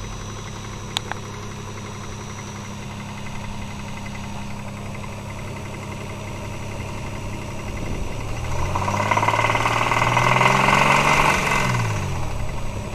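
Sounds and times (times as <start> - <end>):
car engine idling and revving: 0.0 - 12.9.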